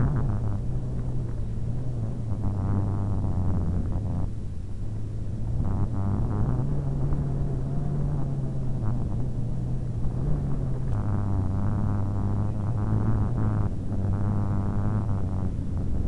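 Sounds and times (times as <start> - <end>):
paramotor engine and propeller: 0.0 - 16.0.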